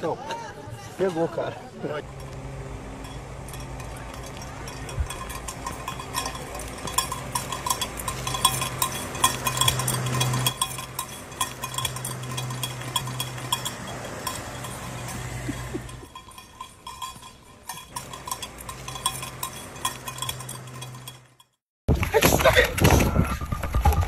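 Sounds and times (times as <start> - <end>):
steady low hum: 1.8 - 21.5
metallic jingling and clinking: 1.9 - 21.6.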